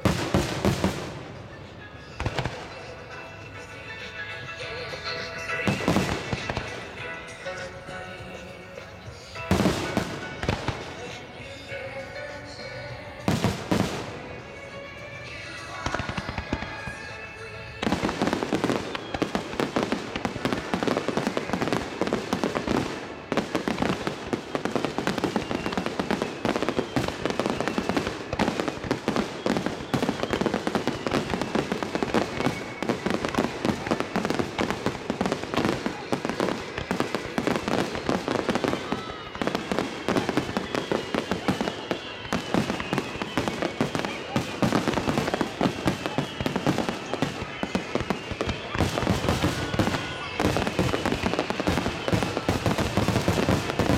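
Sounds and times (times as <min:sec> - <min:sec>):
fireworks bangs and crackling: 0:00.0 - 0:53.9
music: 0:00.1 - 0:53.9.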